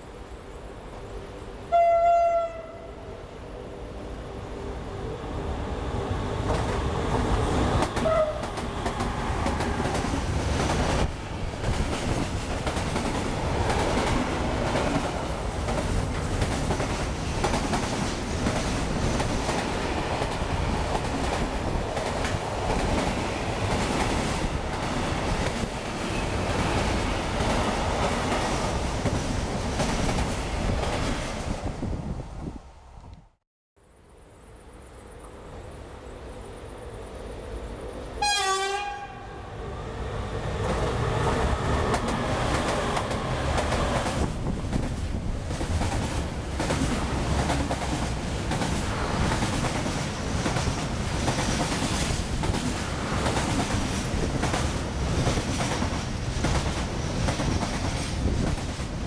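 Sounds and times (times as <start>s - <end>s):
freight train passing: 0.0s - 33.3s, 34.1s - 59.0s.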